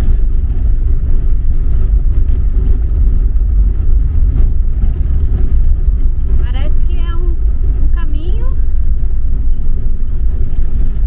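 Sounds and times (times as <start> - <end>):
road noise: 0.0 - 11.0
van engine rumble: 0.0 - 11.0.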